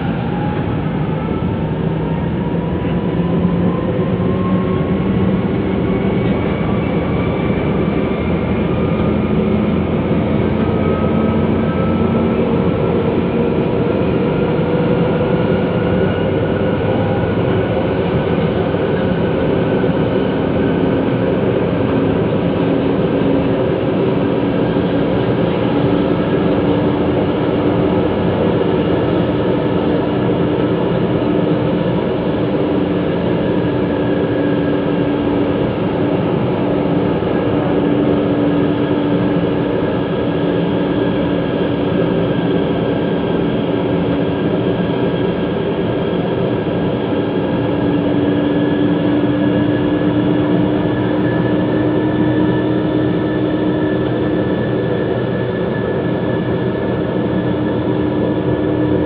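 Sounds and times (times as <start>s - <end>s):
metro train rumble in tunnel: 0.0s - 59.0s
train whine: 0.0s - 59.0s.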